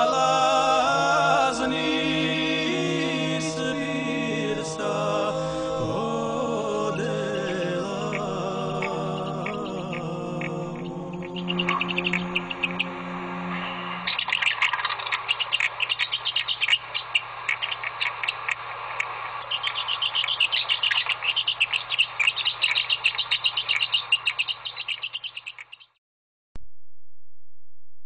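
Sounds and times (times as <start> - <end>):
low steady hum: 0.0 - 25.2
small birds twittering: 0.0 - 26.0.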